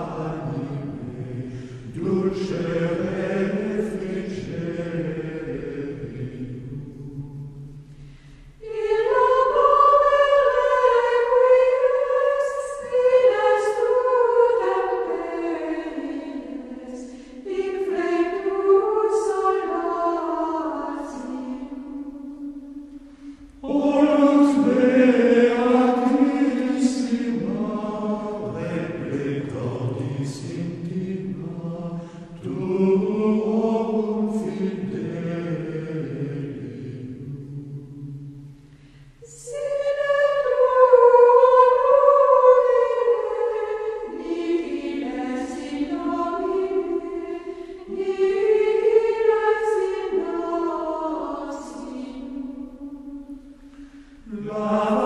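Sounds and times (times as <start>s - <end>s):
choir singing: 0.0s - 7.8s, 8.6s - 55.0s.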